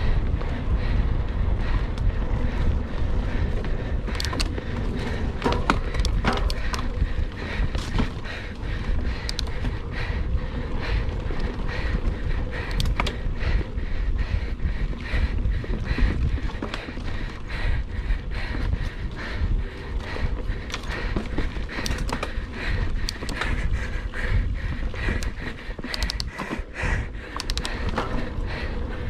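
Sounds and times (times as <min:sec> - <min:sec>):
bike clicks and knocks: 0:00.0 - 0:29.0
bike tyres on dirt trail: 0:00.0 - 0:29.0
wind rumbling on microphone: 0:00.0 - 0:29.0.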